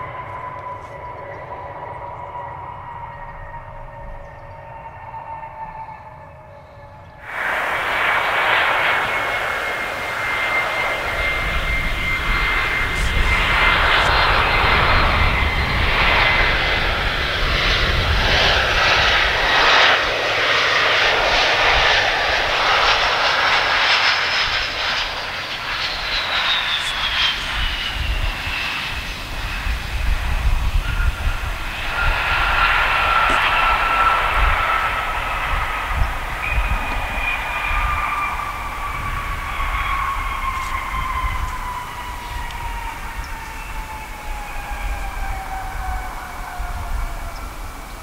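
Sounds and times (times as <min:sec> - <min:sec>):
jet engine whine: 0:00.0 - 0:48.0
rushing air noise: 0:07.2 - 0:48.0.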